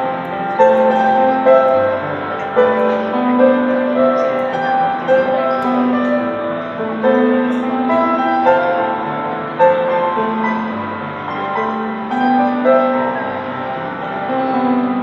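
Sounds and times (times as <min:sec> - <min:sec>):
grand piano playing slow piece: 0:00.0 - 0:15.0.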